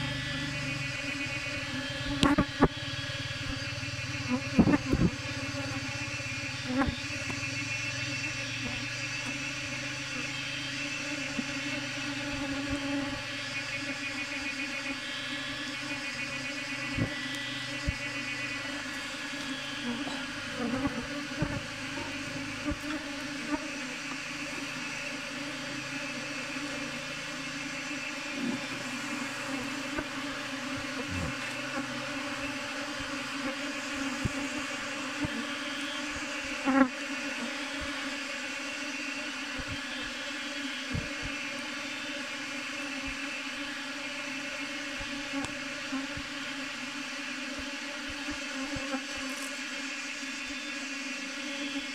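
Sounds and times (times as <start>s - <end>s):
honey bees buzzing: 0.0s - 51.9s.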